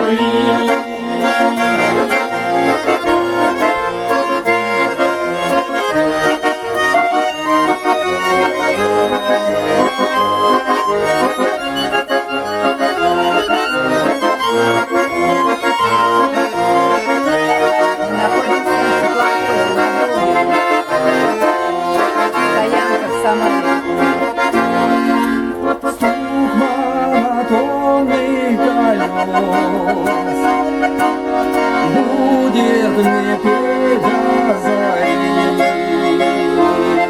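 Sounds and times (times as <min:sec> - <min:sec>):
accordions playing a melody: 0:00.0 - 0:37.0.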